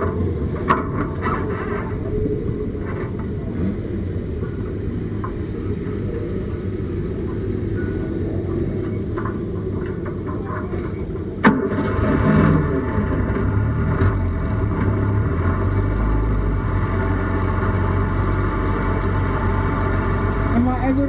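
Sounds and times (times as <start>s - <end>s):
race car engine idling: 0.0s - 21.0s.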